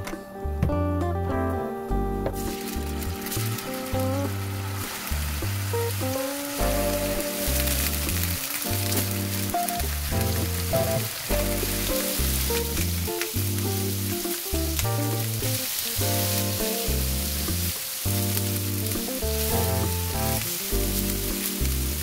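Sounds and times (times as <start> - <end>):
background music with bass: 0.0 - 22.0
tofu sizzling in a pan: 2.4 - 22.0.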